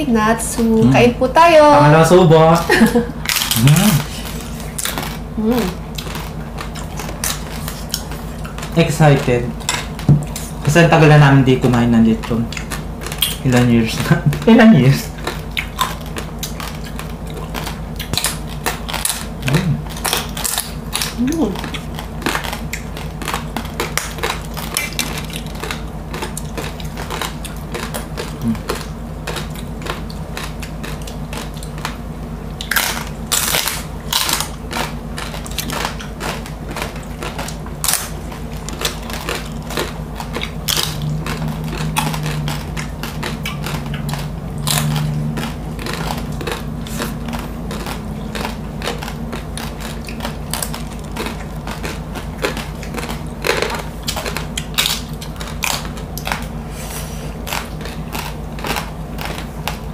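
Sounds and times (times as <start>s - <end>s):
chewing crispy pork skin: 1.6s - 59.9s.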